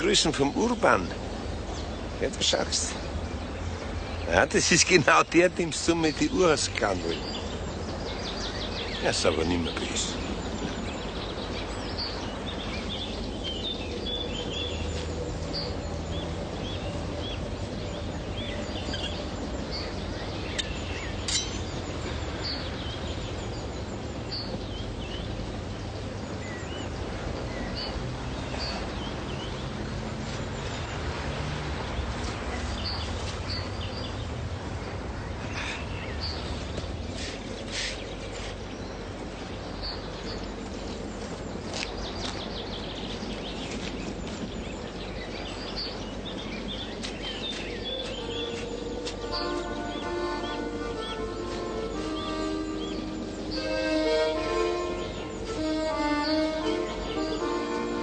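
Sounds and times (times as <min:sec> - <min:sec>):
outdoor background hiss: 0:00.0 - 0:58.0
small birds chirping: 0:00.0 - 0:58.0.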